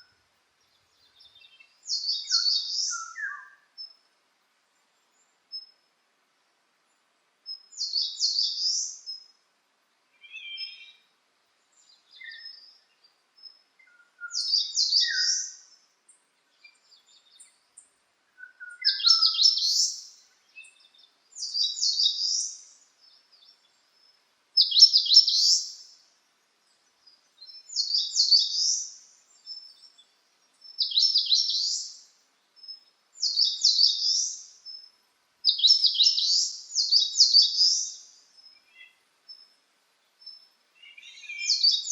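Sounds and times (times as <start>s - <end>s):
faint lower bird calls: 0.0s - 4.1s, 7.5s - 9.4s, 10.1s - 11.1s, 11.8s - 26.0s, 27.3s - 39.6s, 40.2s - 41.9s.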